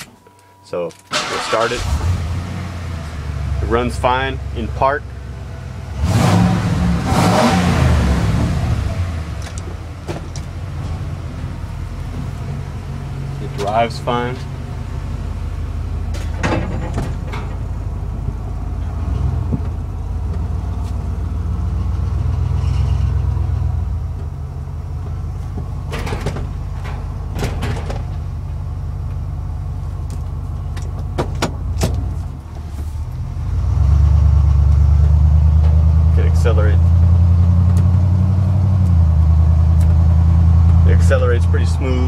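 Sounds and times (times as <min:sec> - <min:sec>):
truck engine humming: 0:00.0 - 0:42.0.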